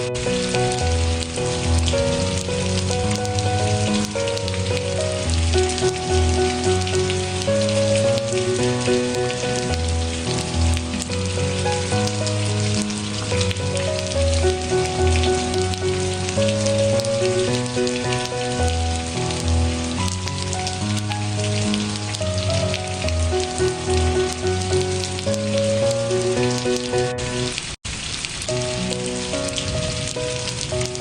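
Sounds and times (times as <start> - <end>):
soft background music: 0.0 - 27.6, 28.5 - 31.0
steady rain: 0.0 - 31.0.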